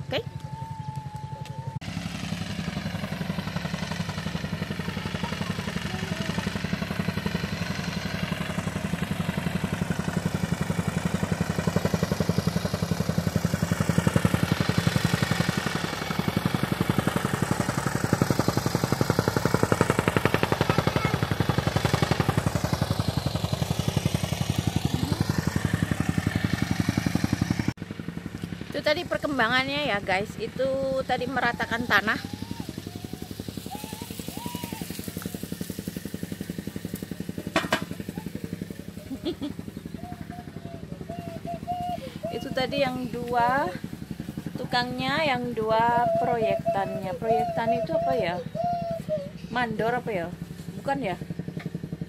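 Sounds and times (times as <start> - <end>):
tamping rammer beating soil: 2.5 - 48.0, 49.0 - 52.0.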